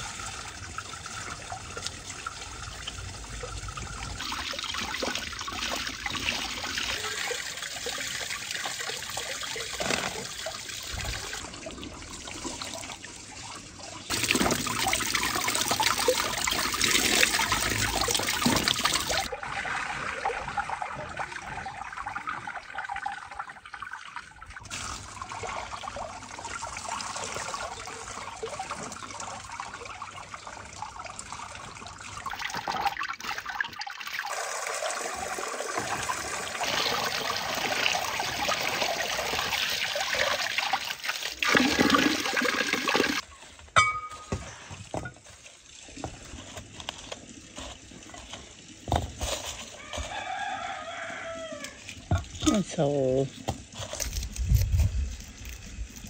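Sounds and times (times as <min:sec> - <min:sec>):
splashing and dripping water: 0:00.0 - 0:56.0
water pouring into stone basin: 0:00.0 - 0:56.0.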